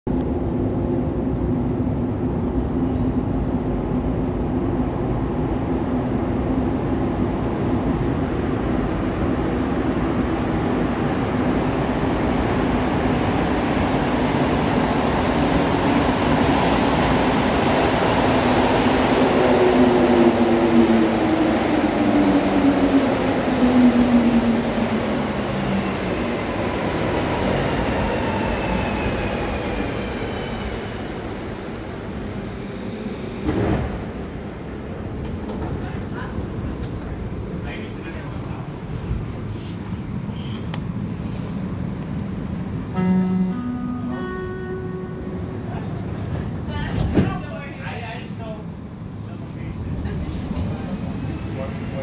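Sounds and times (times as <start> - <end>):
train rumbling through tunnel: 0.0 - 52.0.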